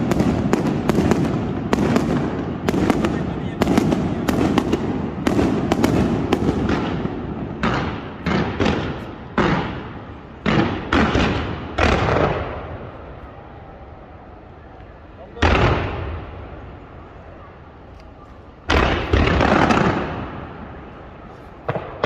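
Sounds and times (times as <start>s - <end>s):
fireworks bangs: 0.0s - 13.4s, 14.8s - 17.1s, 17.8s - 22.0s.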